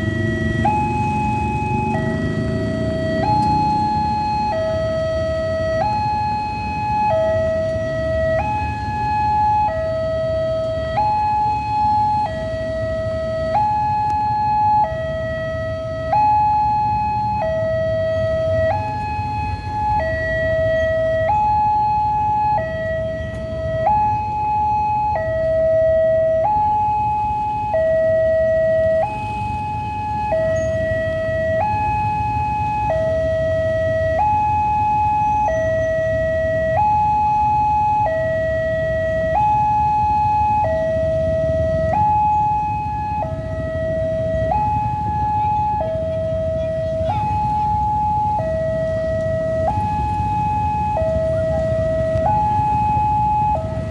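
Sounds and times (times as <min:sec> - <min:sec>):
idling traffic rumble: 0:00.0 - 0:53.9
two-tone level crossing alarm: 0:00.0 - 0:53.9.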